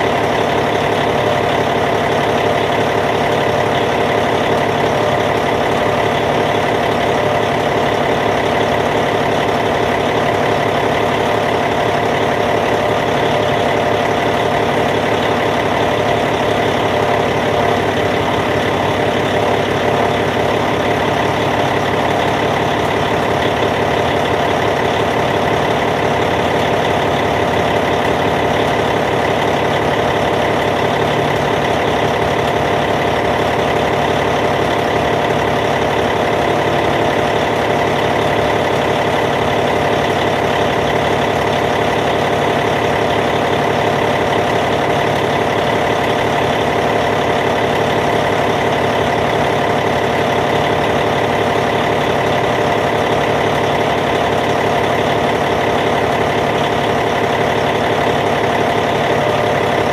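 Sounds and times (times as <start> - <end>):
diesel bulldozer engine idling: 0.0 - 59.9.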